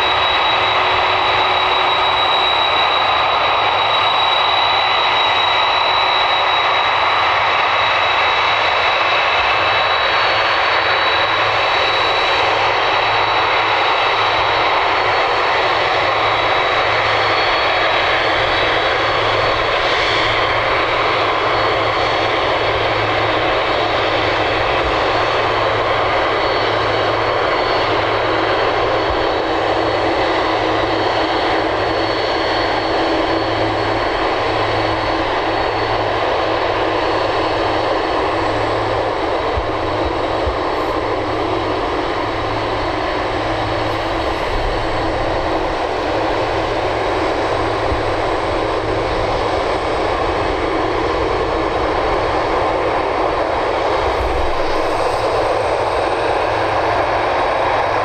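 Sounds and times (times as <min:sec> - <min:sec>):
jet engines rumbling with high whine: 0:00.0 - 0:58.0.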